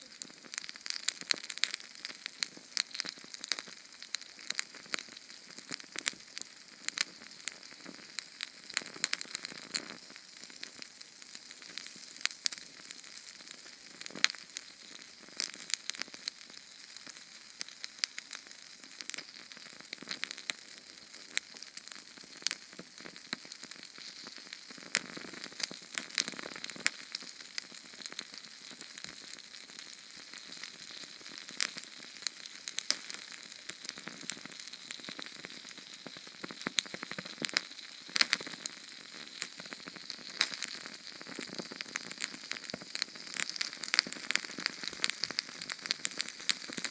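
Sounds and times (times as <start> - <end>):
flame hissing and crackling: 0.0 - 46.9.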